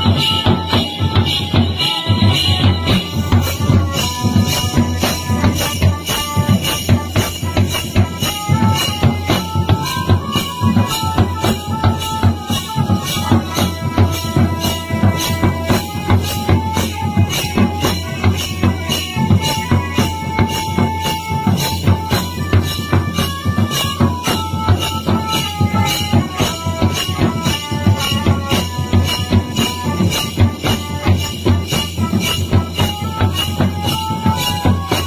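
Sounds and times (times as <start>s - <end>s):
bass drums beaten with mallets: 0.0s - 35.0s
metal hand percussion: 0.0s - 35.0s.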